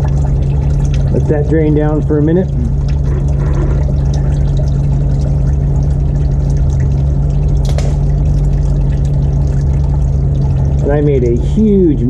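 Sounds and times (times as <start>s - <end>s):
low hum: 0.0s - 12.0s
oil pouring in a stream: 0.0s - 12.0s.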